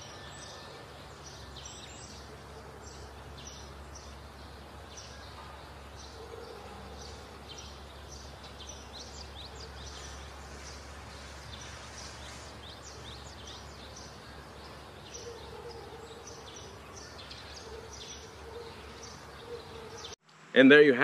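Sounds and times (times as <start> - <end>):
birds chirping: 0.0 - 20.8.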